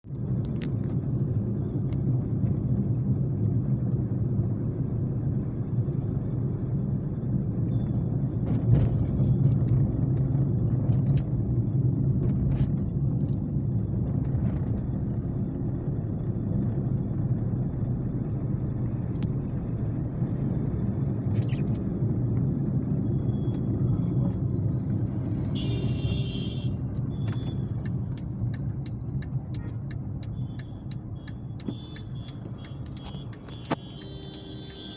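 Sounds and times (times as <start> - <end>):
road noise: 0.0 - 34.9
car engine rumble: 0.1 - 34.9.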